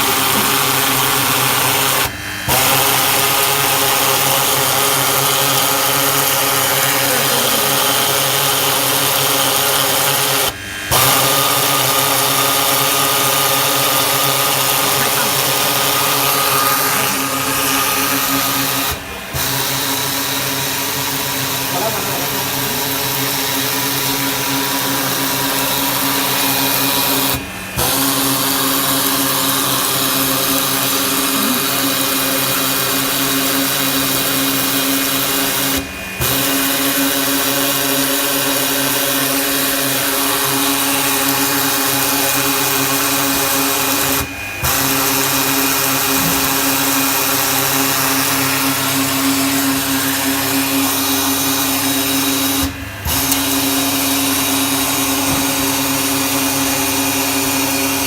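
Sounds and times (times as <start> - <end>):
sanding machine motor drone: 0.0 - 58.0.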